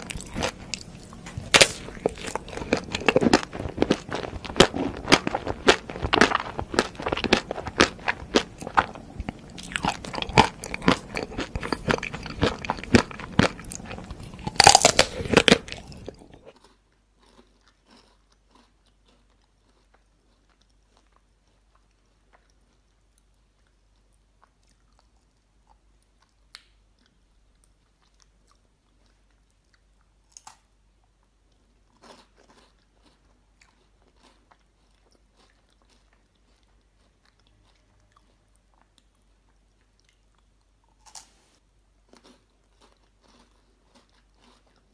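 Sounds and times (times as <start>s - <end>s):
crunching and chewing ice cream bar: 0.0s - 44.9s
faint bites and mouth sounds: 0.0s - 44.9s.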